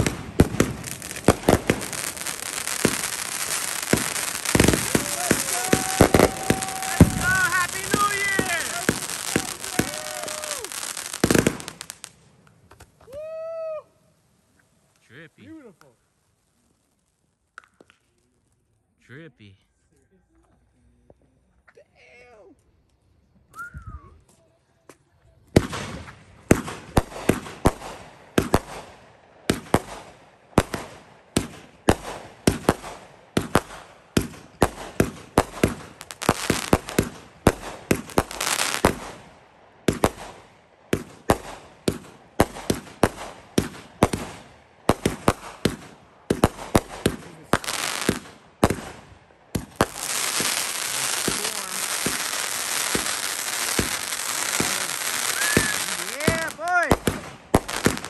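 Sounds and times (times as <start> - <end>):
firework reports: 0.0 - 12.2, 15.0 - 16.8, 19.0 - 19.6, 25.0 - 28.9, 29.5 - 58.0
firework crackling: 0.0 - 19.0, 25.5 - 58.0.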